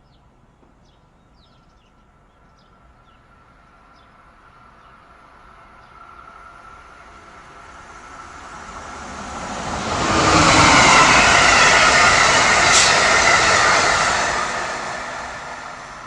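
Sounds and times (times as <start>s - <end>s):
passenger train passing at speed: 1.6s - 16.0s.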